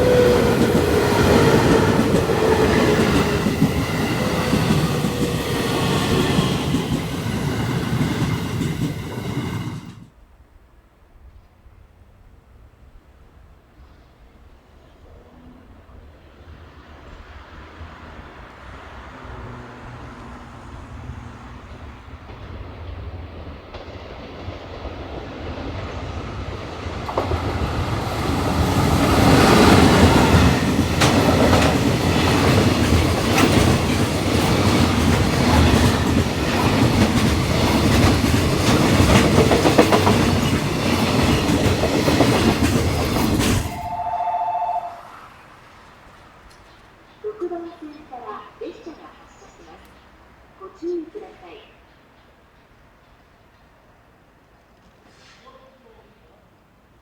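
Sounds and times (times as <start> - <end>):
electric train rumbling: 0.0 - 10.3, 13.1 - 54.7.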